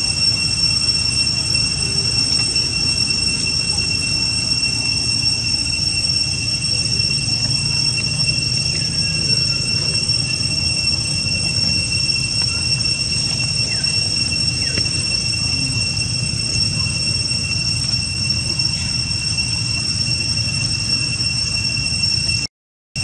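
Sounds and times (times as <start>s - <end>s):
high-pitched two-tone whine: 0.0s - 23.0s.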